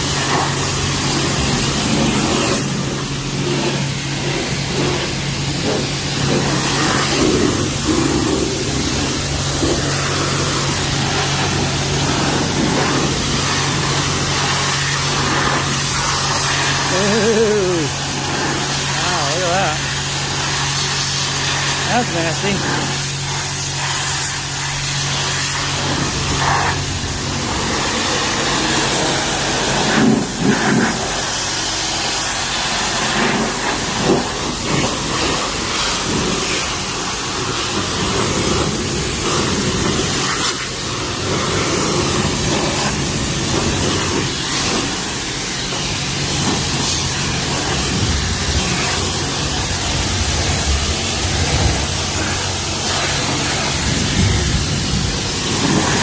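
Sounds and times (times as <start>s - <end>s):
pressure washer water spray hiss: 0.0s - 56.0s.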